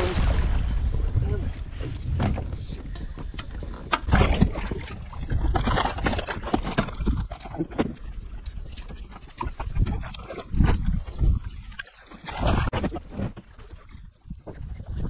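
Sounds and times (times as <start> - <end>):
paddle knocks and splashes: 0.0 - 15.0
wind on microphone: 0.0 - 15.0.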